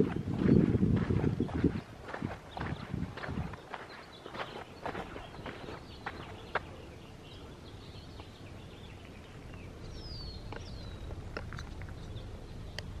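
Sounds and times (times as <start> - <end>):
steady low rumble: 0.0 - 3.9, 4.8 - 13.0
birds chirping: 0.0 - 13.0.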